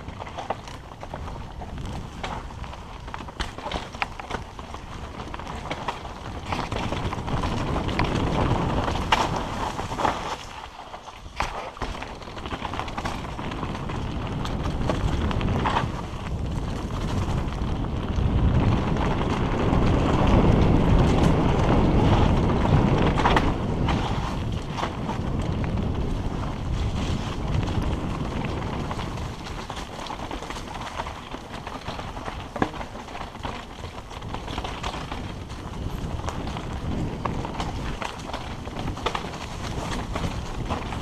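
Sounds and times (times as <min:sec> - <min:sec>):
wind buffeting microphone: 0:00.0 - 0:10.6, 0:11.2 - 0:41.0
bike knocking on rocks: 0:00.0 - 0:41.0.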